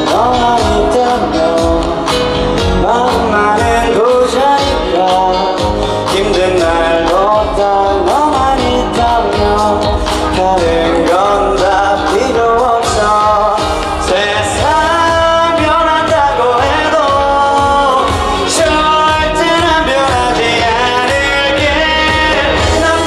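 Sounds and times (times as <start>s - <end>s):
live pop music: 0.0s - 23.0s.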